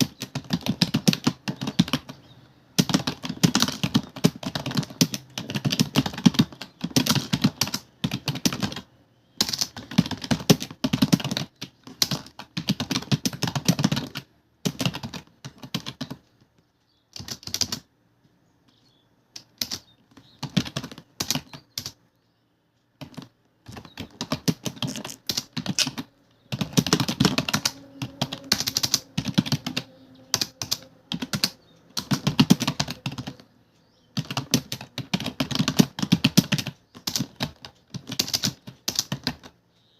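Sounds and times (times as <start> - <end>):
fast keyboard typing: 0.0 - 16.4, 17.2 - 17.9, 19.4 - 22.0, 23.0 - 33.5, 34.1 - 39.6.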